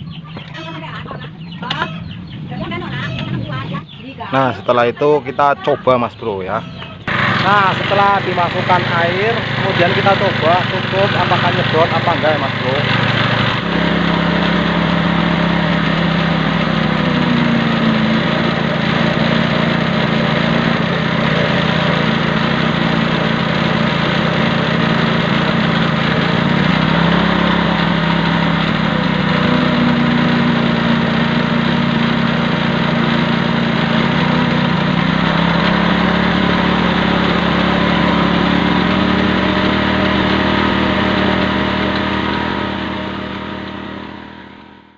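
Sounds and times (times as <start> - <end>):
engine running water pump: 0.0 - 44.9.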